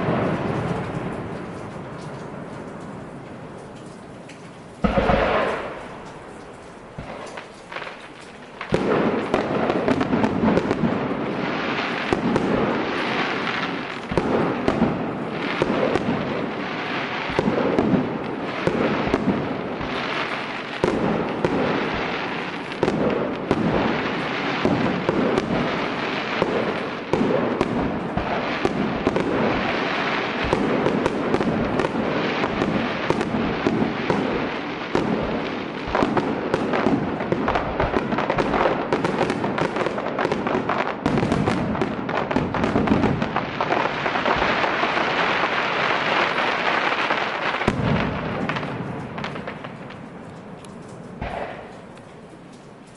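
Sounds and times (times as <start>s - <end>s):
firework bangs: 0.0s - 3.8s, 4.8s - 52.9s
fireworks bursts and crackling: 0.0s - 52.9s.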